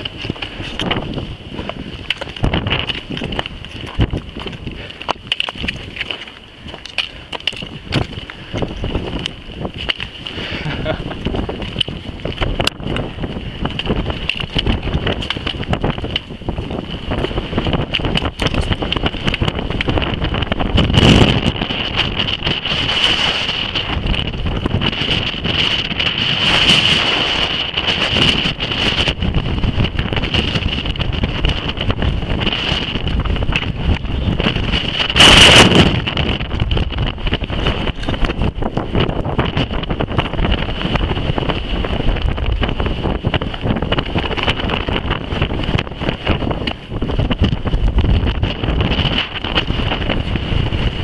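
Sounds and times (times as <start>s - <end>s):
strong wind buffeting microphone: 0.0s - 51.0s.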